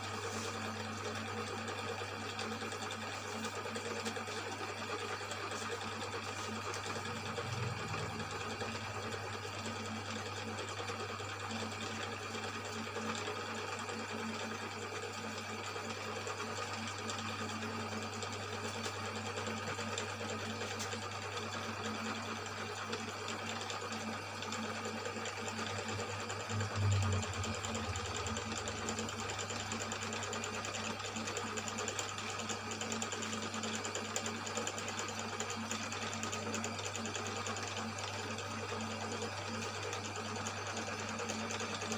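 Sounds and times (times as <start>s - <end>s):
boring machine motor hum: 0.0s - 41.9s.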